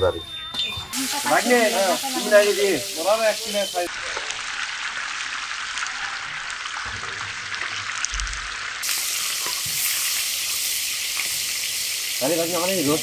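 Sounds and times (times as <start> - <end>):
chicken deep-frying in hot oil: 0.9 - 13.0.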